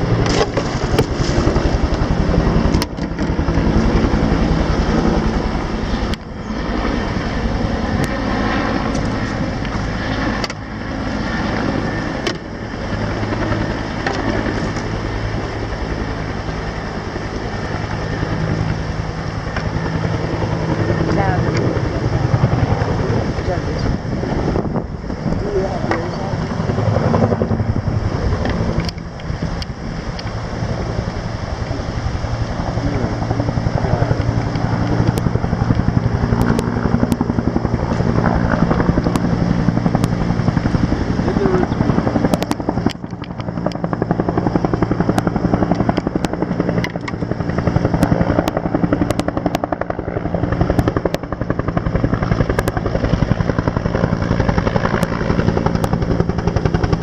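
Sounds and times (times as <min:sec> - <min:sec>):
helicopter engine drone: 0:00.0 - 0:57.0
helicopter rotor chop: 0:00.0 - 0:57.0.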